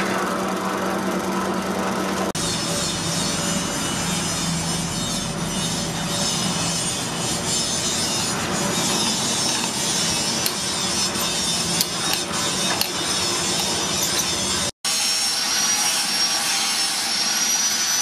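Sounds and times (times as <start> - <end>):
drill press motor hum: 0.1 - 14.7
drill bit scraping through steel: 2.4 - 18.0.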